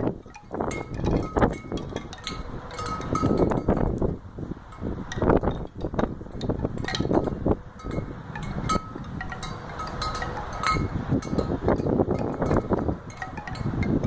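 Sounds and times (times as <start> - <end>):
light metallic chiming tones: 0.0 - 4.0, 4.7 - 14.0
storm wind buffeting microphone: 0.0 - 14.0.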